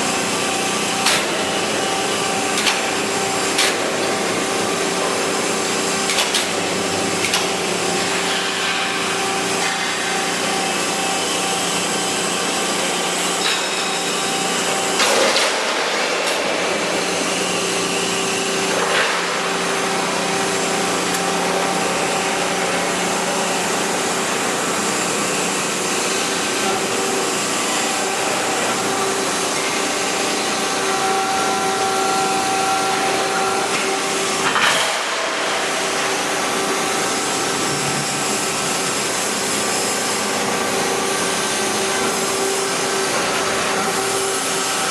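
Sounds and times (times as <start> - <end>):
bending machine humming: 0.0 - 44.9.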